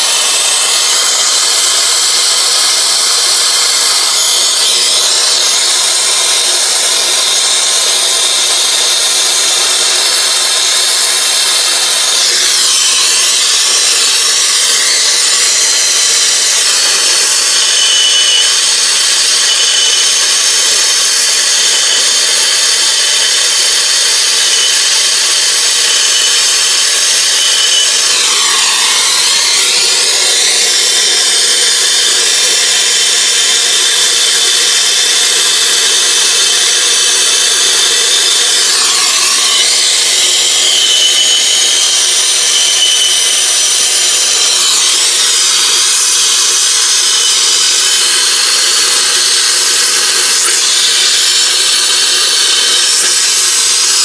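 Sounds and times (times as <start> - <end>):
torch flame hissing: 0.0 - 54.0.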